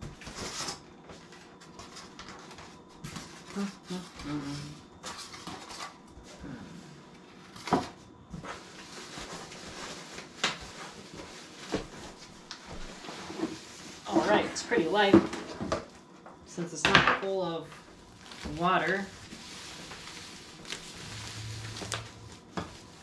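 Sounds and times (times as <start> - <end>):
packaging rustling and scraping: 0.0 - 4.4, 5.0 - 6.5, 7.2 - 15.9, 17.7 - 23.0.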